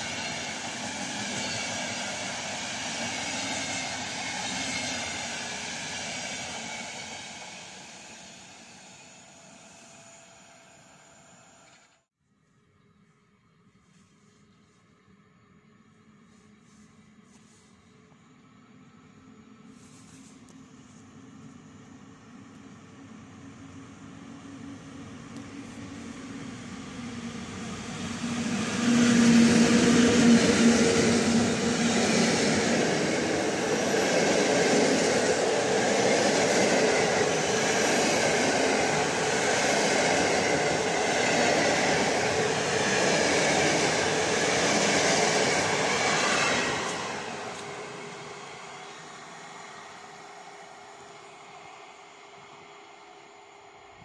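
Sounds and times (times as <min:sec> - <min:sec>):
train passing: 0:00.0 - 0:11.7, 0:13.9 - 0:54.0
wheels rushing on rails: 0:00.0 - 0:12.0, 0:16.0 - 0:54.0.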